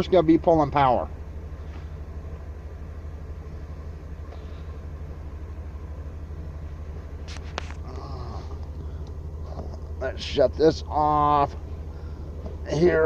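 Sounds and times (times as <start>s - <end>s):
van engine idling: 0.0s - 13.0s.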